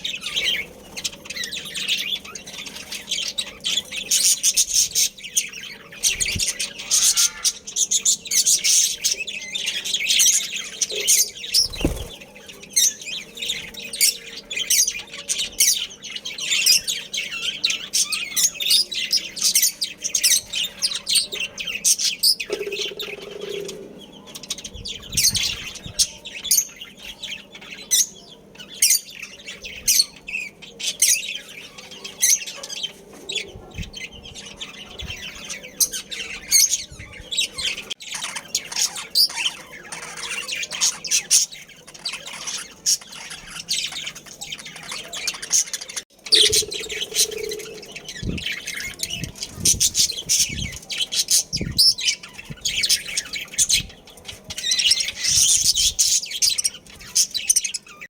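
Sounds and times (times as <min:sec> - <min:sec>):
budgerigars chirping: 0:00.0 - 0:33.0, 0:34.0 - 0:54.0.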